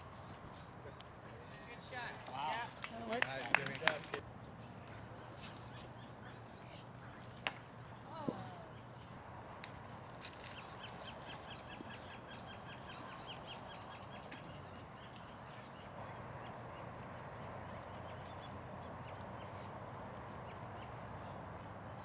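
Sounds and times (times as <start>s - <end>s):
faint outdoor background: 0.0s - 22.0s.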